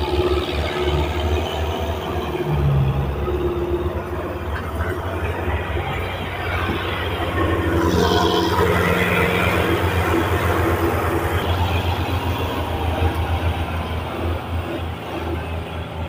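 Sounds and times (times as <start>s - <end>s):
tractor diesel engine labouring: 0.0s - 16.0s.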